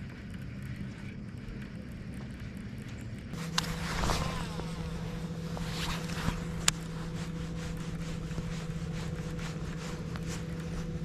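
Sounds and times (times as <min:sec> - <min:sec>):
electric trolling motor humming: 0:00.0 - 0:11.0
falling whirr: 0:00.0 - 0:11.0.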